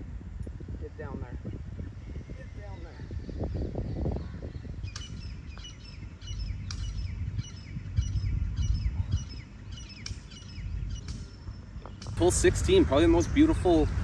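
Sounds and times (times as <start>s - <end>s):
wind rumble on microphone: 0.0s - 14.0s
bird chirping: 1.0s - 14.0s.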